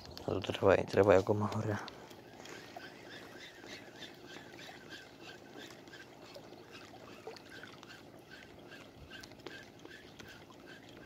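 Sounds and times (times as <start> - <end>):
small waves lapping on rocks: 0.0 - 11.0.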